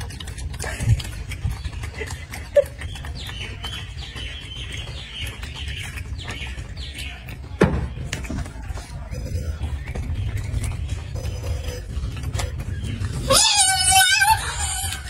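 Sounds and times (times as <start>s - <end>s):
monkey gnawing apple: 0.0s - 15.0s.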